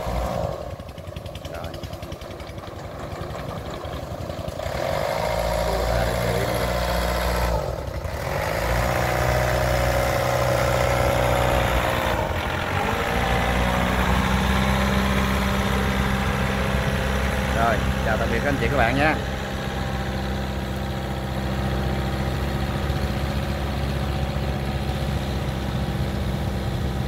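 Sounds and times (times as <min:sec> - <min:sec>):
boat diesel engine running: 0:00.0 - 0:27.0.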